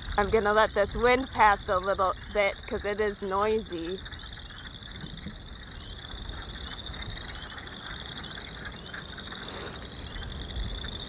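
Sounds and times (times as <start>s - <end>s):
frogs ringing chorus: 0.0s - 11.0s
spring peepers peeping: 0.0s - 11.0s
wind rumble on microphone: 0.0s - 11.0s.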